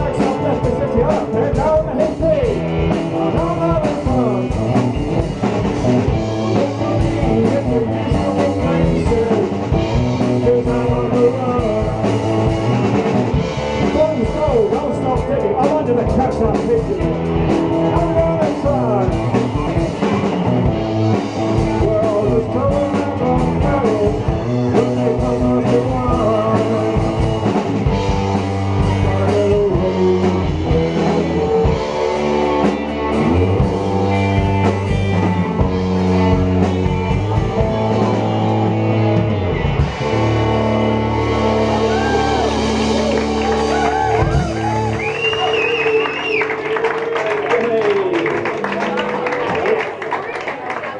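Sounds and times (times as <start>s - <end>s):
drum kit: 0.0s - 47.6s
bass guitar: 0.0s - 50.9s
electric guitar: 0.0s - 50.9s.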